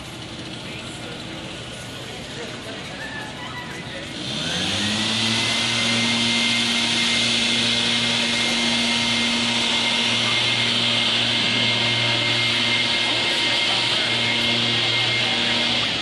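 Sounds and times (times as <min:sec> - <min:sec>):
small motor running at high speed: 0:00.0 - 0:16.0.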